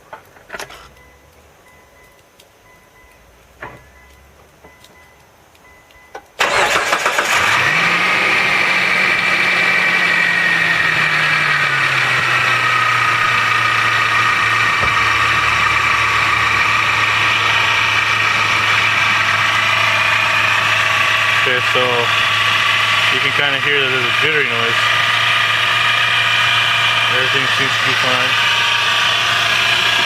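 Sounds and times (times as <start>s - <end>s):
car engine starting and idling: 0.0s - 30.0s.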